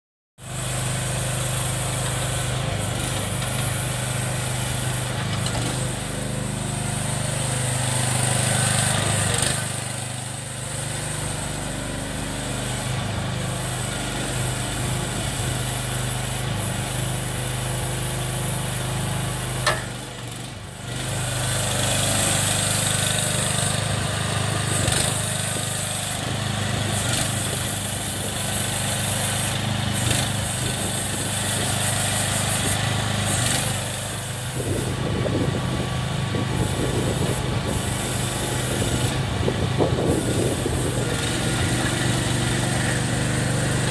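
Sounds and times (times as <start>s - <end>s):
mini excavator engine running: 0.4s - 43.9s.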